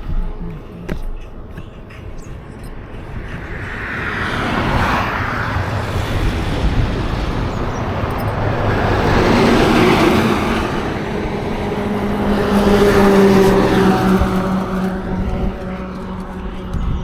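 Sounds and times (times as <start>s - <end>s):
motorcycle engine and road noise: 0.0s - 17.0s
wind rushing over microphone: 0.0s - 17.0s.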